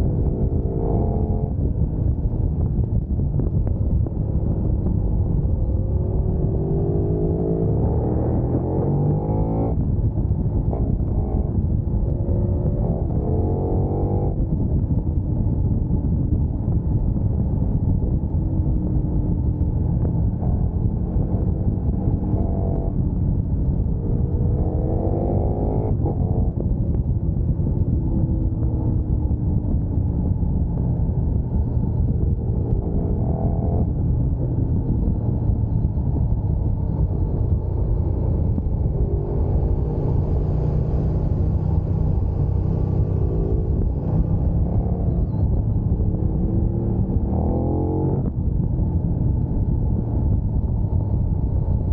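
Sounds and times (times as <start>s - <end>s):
motorcycle engine accelerating: 0.0s - 51.9s
wind and road noise: 0.0s - 51.9s.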